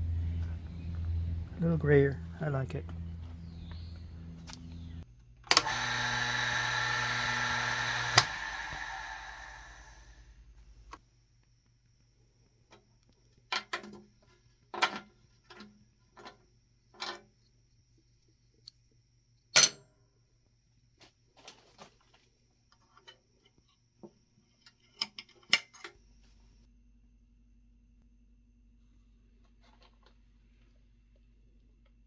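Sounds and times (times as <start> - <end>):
faint low hum: 0.0 - 5.7, 7.1 - 32.0.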